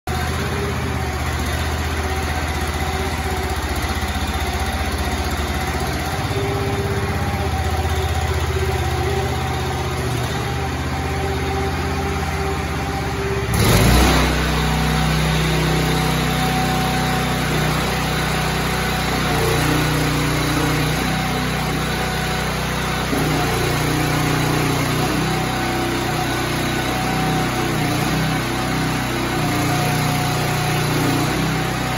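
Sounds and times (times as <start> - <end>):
small engine running under load: 0.1 - 31.9.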